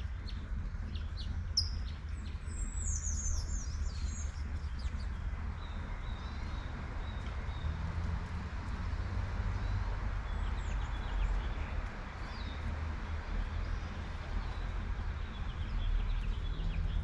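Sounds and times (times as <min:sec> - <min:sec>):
low rumble of traffic: 0:00.0 - 0:17.0
songbirds chirping: 0:00.0 - 0:17.0.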